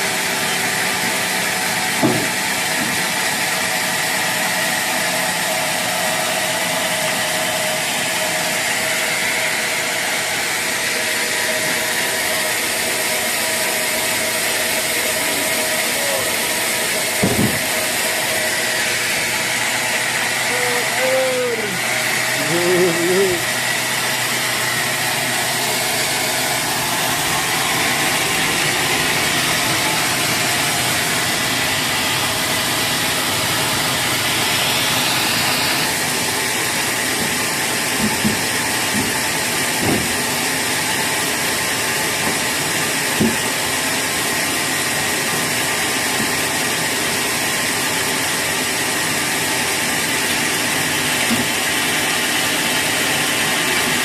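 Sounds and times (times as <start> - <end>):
sawmill machinery whining: 0.0 - 54.0.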